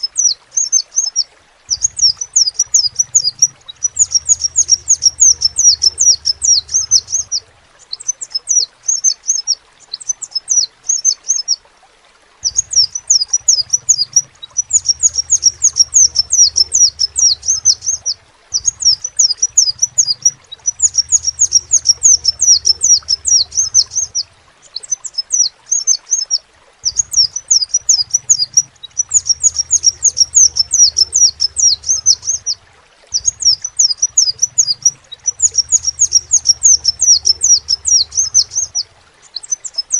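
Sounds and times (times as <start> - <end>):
bird singing high thin chirps: 0.0 - 11.6, 12.4 - 39.9.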